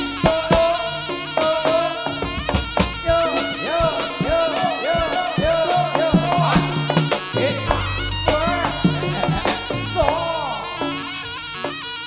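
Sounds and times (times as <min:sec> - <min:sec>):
drum strokes: 0:00.0 - 0:12.0
shawm nasal melody: 0:00.0 - 0:12.0.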